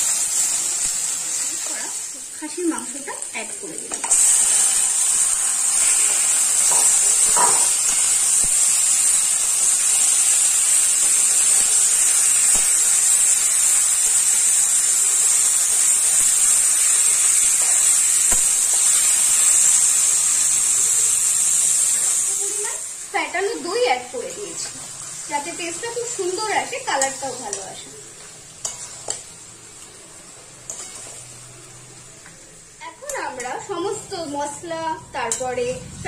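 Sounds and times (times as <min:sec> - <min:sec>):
meat sizzling in hot oil: 0:00.0 - 0:35.6.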